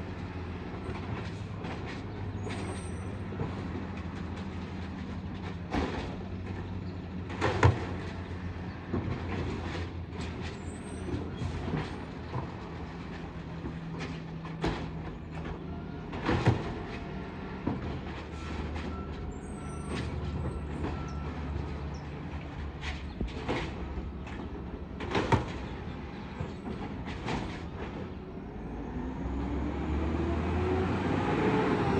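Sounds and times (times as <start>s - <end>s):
garbage truck engine running: 0.0s - 30.8s.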